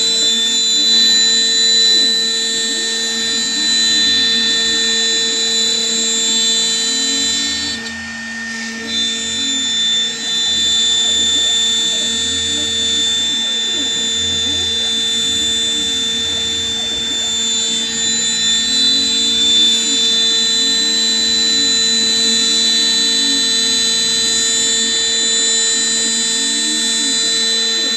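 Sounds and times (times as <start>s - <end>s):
axis motors rising and falling: 0.0s - 27.9s
router spindle whine: 0.0s - 27.9s.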